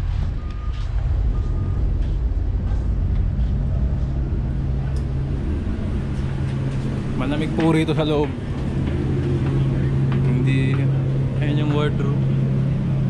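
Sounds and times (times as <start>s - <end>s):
ship machinery rumble and hum: 0.0s - 13.0s.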